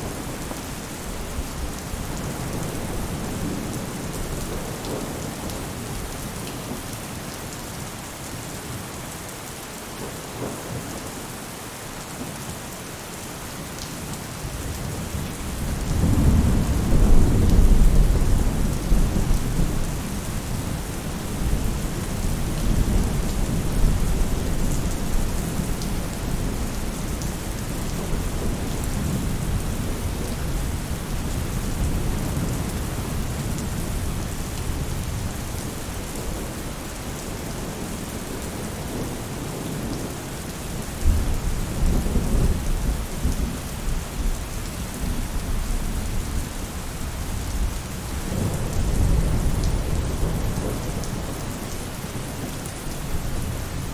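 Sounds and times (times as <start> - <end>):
rain on a roof: 0.0 - 53.9.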